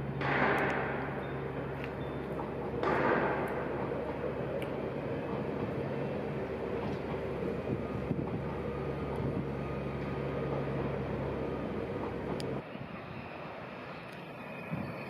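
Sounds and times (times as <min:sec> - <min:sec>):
constant low hum: 0:00.0 - 0:15.0
train wheels rumbling on rail: 0:00.0 - 0:15.0.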